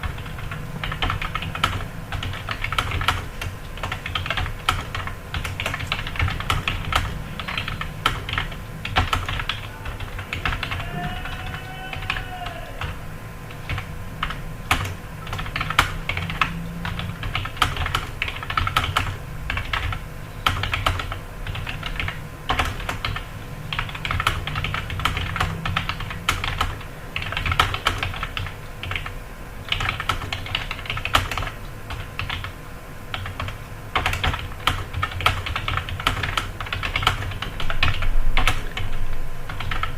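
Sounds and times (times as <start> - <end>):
fast typing on keyboard: 0.0 - 39.9
steady low hum: 0.0 - 39.9.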